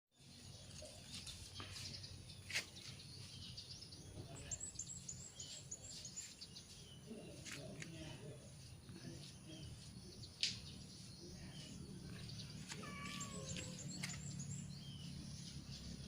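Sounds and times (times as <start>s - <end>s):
bird chirping: 0.2s - 16.0s.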